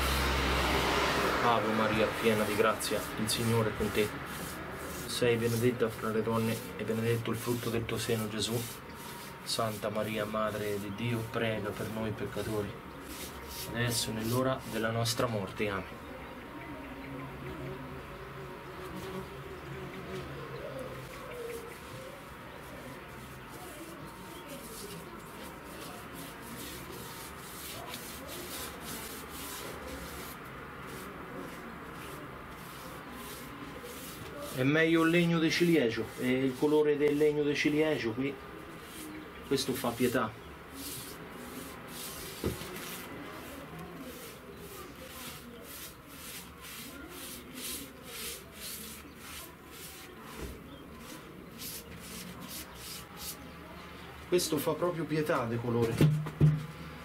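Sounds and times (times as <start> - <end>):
paintbrush scrubbing on wood: 1.3 - 15.8, 20.8 - 53.5.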